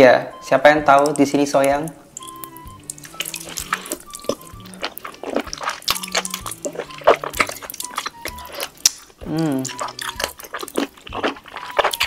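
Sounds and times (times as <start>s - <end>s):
soft background music: 0.0s - 12.0s
wet slurping and smacking: 2.2s - 12.0s.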